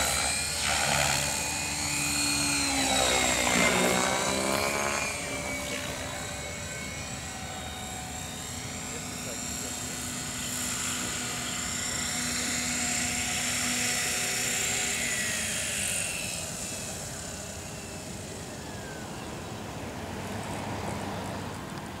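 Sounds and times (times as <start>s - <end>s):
model helicopter rotor whining: 0.0s - 22.0s.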